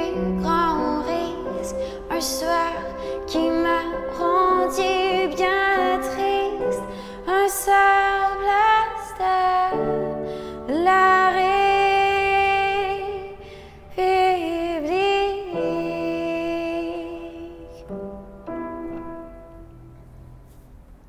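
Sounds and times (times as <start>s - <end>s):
grand piano chords: 0.0s - 21.0s.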